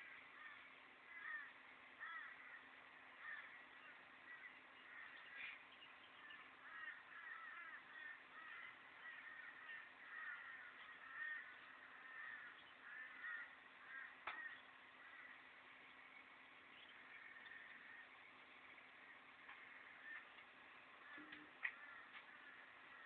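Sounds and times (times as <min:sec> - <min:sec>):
crows cawing: 0:00.0 - 0:05.6, 0:06.2 - 0:15.6, 0:17.0 - 0:18.2, 0:19.0 - 0:20.4, 0:21.0 - 0:23.0.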